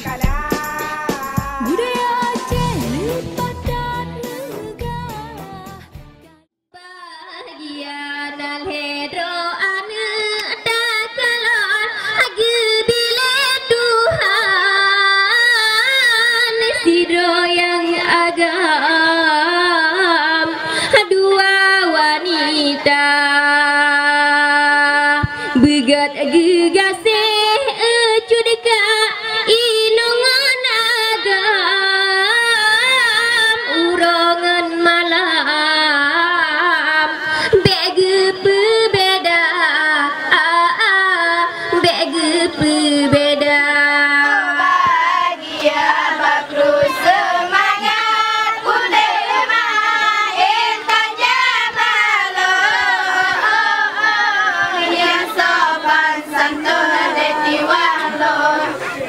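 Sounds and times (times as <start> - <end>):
woman singing through a pa: 0.0 - 5.9, 6.8 - 59.0.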